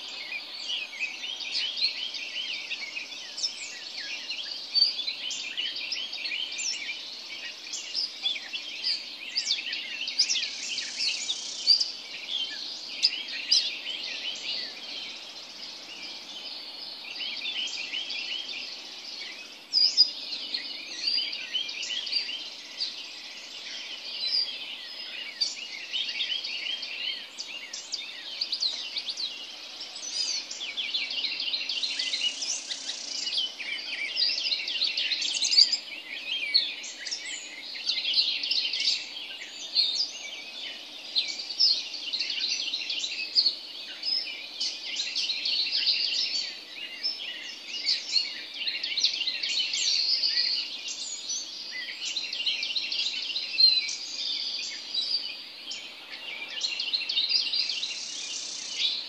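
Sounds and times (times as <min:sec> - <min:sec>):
birds chirping and trilling: 0:00.0 - 0:59.0.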